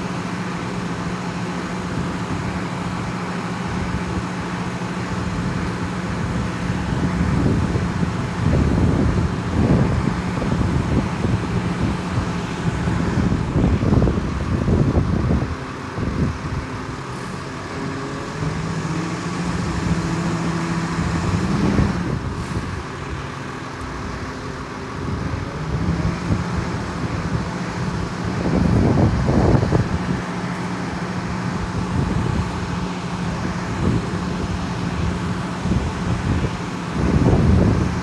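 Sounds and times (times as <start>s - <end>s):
road traffic passing: 0.0s - 38.0s
wind buffeting microphone: 0.1s - 38.0s.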